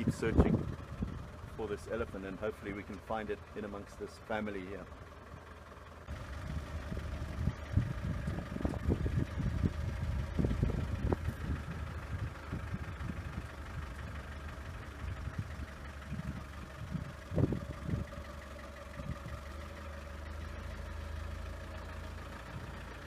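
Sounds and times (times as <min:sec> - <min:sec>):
engine running with steady hum: 0:00.0 - 0:23.0.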